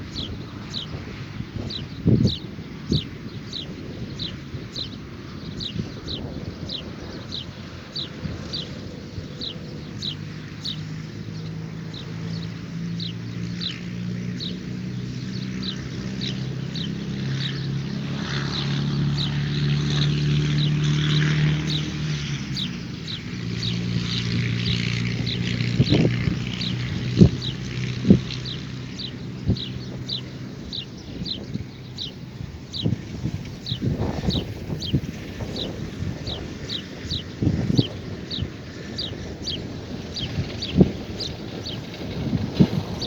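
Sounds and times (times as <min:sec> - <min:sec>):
bird chirping: 0:00.0 - 0:43.0
vehicle engine hum: 0:00.0 - 0:43.0.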